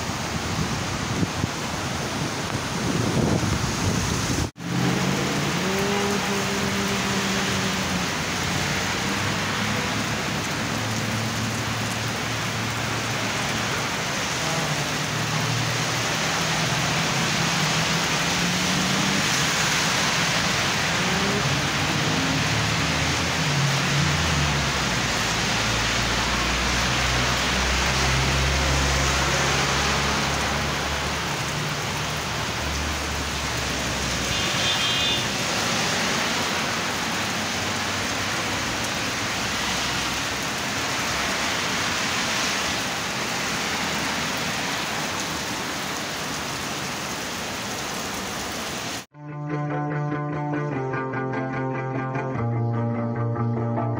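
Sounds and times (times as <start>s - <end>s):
cars passing: 0.0s - 49.1s
heavy rain on pavement: 0.0s - 49.1s.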